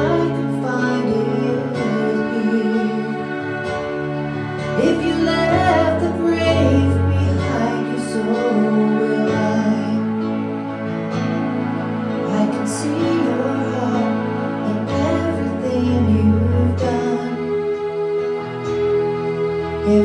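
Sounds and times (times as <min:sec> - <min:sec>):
slow worship piano chords: 0:00.0 - 0:20.0.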